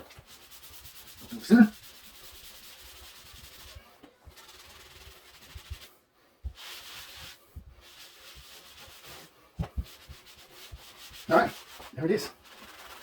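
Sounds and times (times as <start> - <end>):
wet sponge scrubbing drywall: 0.0 - 13.0.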